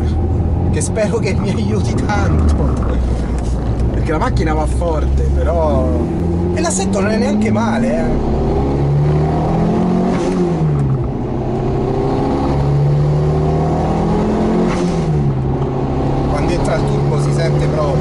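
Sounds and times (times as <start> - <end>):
turbocharged car engine accelerating: 0.0 - 18.0.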